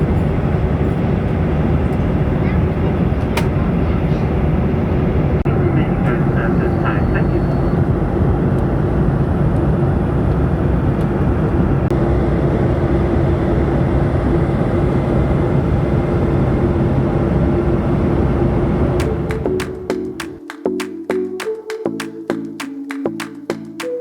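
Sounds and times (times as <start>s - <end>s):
airliner cabin engine roar: 0.0s - 20.4s
constant low hum: 0.0s - 20.4s.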